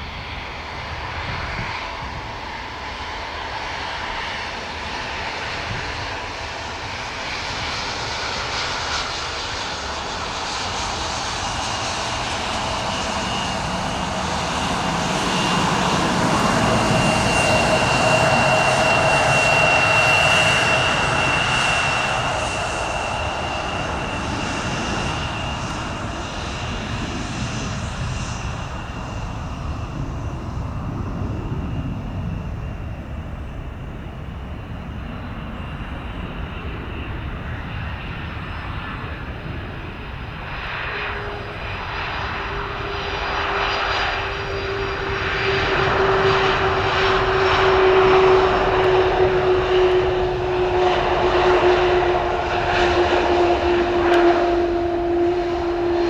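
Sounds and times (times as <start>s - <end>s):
jet plane passing by: 0.0s - 56.0s
steady jet engine whine: 0.0s - 56.0s.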